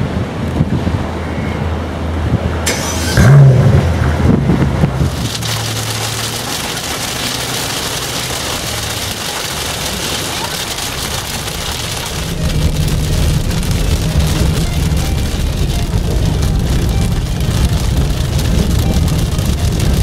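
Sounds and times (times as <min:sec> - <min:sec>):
car engine humming: 0:01.7 - 0:20.0
hailstones pelting car: 0:02.7 - 0:20.0.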